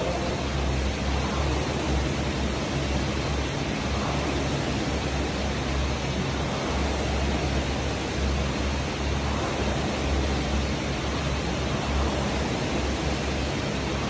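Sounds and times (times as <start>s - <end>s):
rowing machine fan whooshing: 0.0s - 14.0s.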